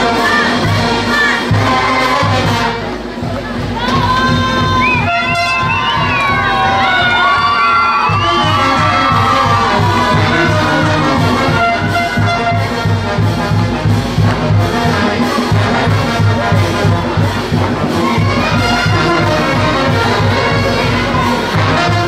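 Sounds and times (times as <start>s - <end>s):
trumpets and trombones: 0.0s - 22.0s
low drum beat: 0.6s - 22.0s.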